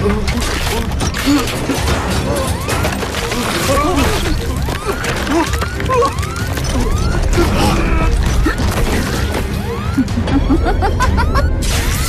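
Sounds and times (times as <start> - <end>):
dramatic score music: 0.0 - 12.0.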